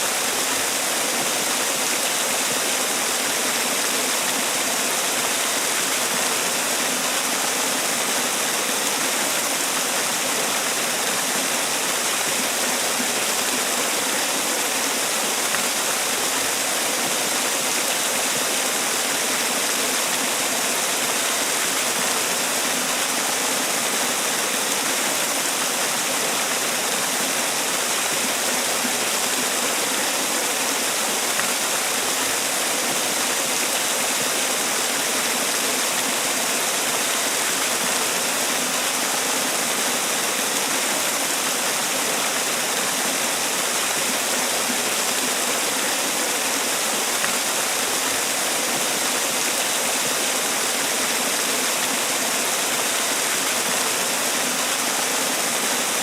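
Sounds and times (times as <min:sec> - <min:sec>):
waterfall splashing: 0:00.0 - 0:56.0.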